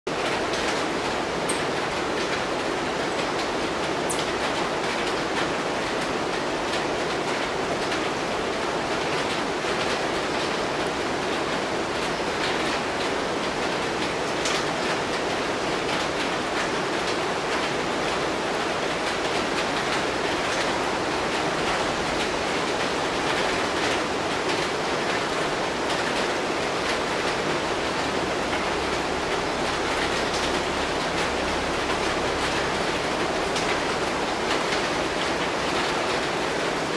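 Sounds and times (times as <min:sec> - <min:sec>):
rain on foliage: 0:00.1 - 0:36.9.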